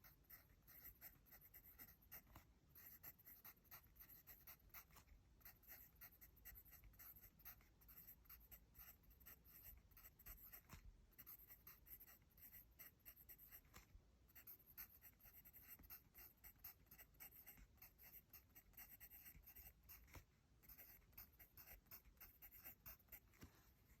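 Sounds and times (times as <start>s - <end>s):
pencil scratching on paper: 0.0s - 24.0s.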